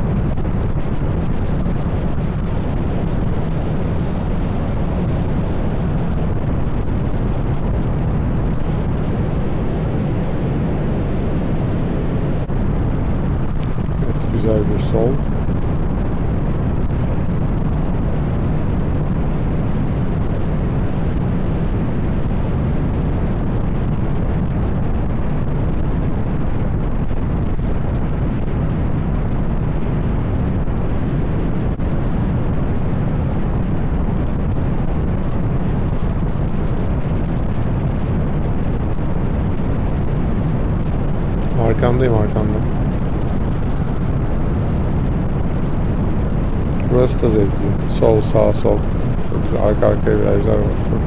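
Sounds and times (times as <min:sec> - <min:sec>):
wind rush on microphone: 0:00.0 - 0:51.0.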